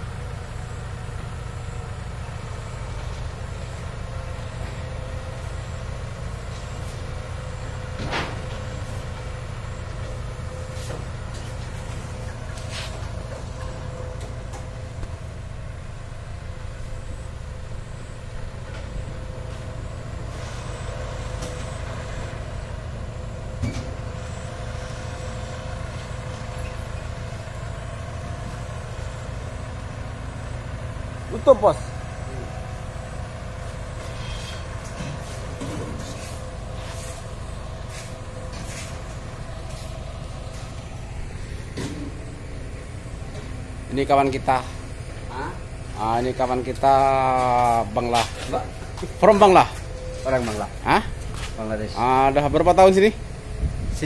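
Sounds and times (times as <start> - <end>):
heavy machinery engine rumble: 0.0 - 54.0.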